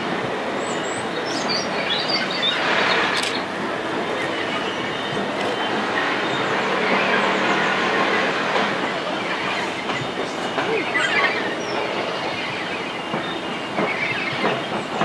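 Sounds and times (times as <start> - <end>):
steam locomotive exhaust: 0.0 - 15.0
train wheels on rails: 0.0 - 15.0.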